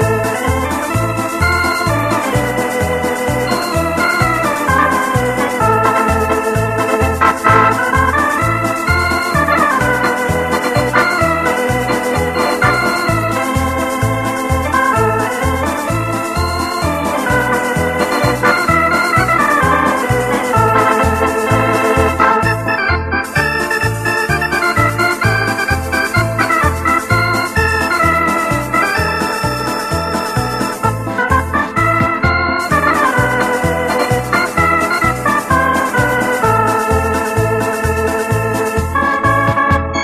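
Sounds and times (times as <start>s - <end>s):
electronic organ melody: 0.0s - 40.0s
rhythm-box percussion ticking: 0.0s - 40.0s
steady bass beat: 0.0s - 40.0s.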